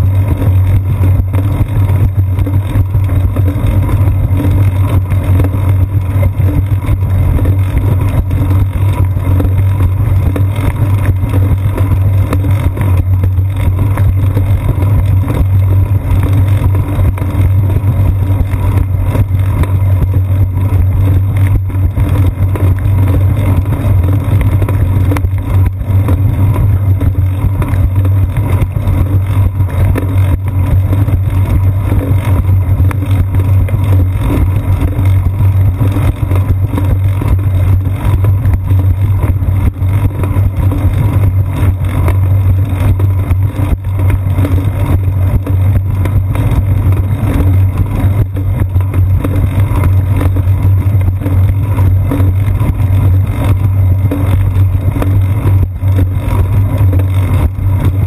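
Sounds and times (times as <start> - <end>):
bicycle ride vibration on concrete: 0.0 - 58.0
wind rumble: 0.0 - 58.0.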